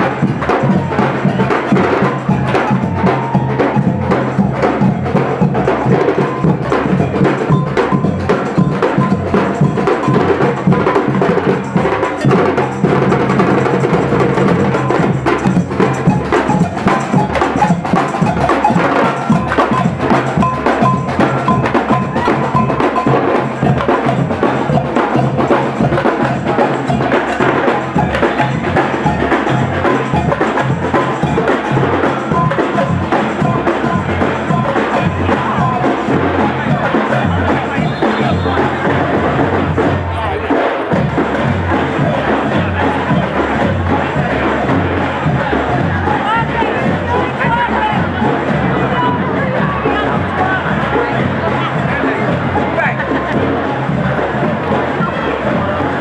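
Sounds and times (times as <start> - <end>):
drums beating: 0.0 - 56.0
marching band playing: 0.0 - 56.0.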